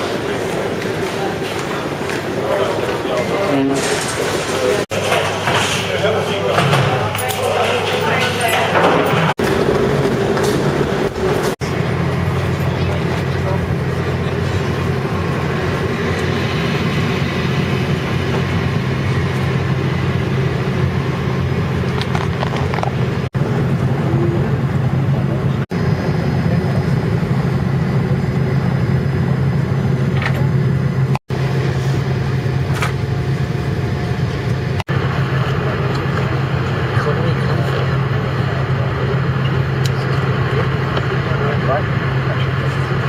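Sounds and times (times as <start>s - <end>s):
cabin air system hum: 0.0s - 43.0s.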